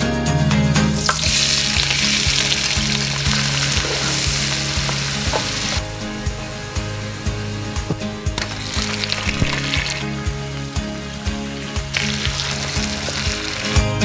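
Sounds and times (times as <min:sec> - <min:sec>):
background music with beat: 0:00.0 - 0:14.0
onions sizzling in oil: 0:01.0 - 0:14.0.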